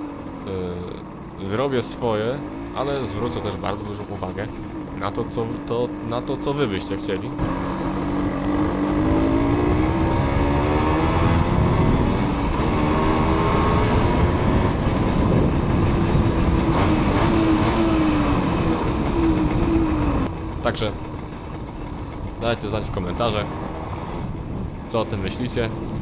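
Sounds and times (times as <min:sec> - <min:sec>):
two-stroke motorbike engine accelerating: 0:00.0 - 0:26.0.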